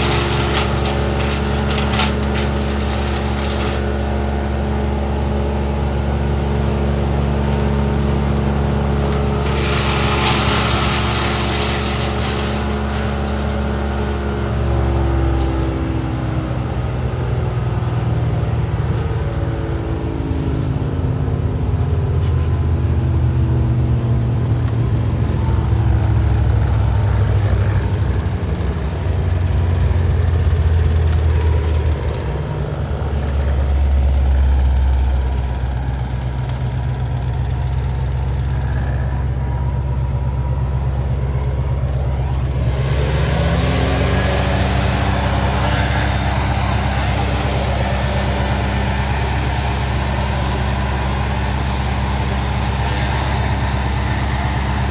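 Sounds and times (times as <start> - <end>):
large engine running: 0.0 - 54.9.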